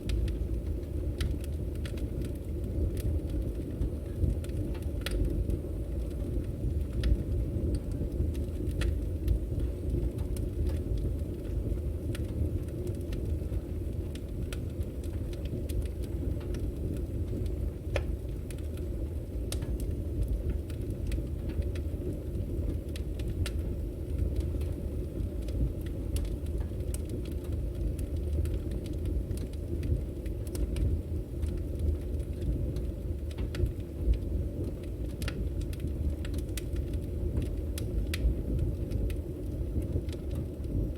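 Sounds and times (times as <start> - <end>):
logs crackling and popping: 0.0 - 40.9
low rumble of flame: 0.0 - 40.9.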